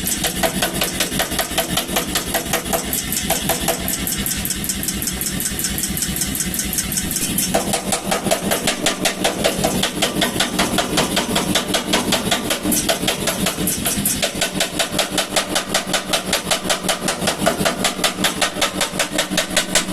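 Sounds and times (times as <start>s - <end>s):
power hammer striking steel: 0.0s - 19.9s.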